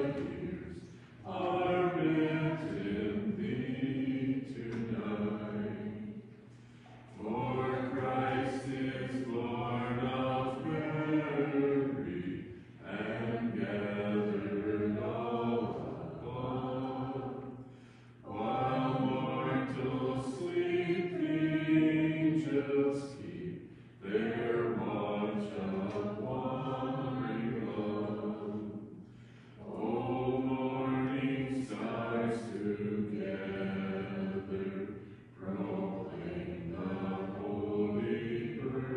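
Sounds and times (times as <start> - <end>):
people singing a hymn: 0.0 - 38.9.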